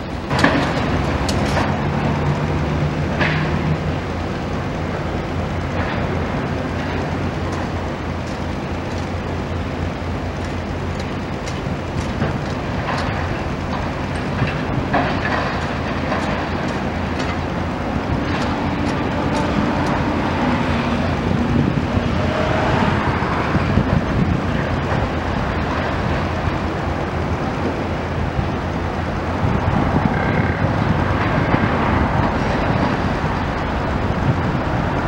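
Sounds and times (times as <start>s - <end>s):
excavator engine and hydraulics: 0.0s - 35.0s.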